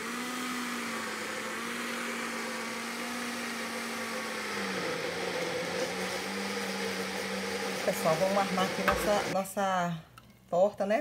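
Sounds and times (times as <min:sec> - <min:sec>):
blender motor humming: 0:00.0 - 0:09.4.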